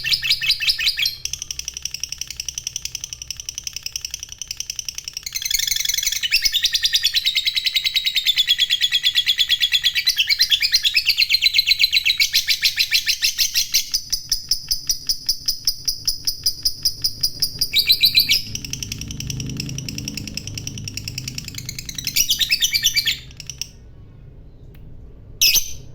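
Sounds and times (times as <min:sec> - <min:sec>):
lovebird chattering trill: 0:00.0 - 0:23.8, 0:25.4 - 0:25.9.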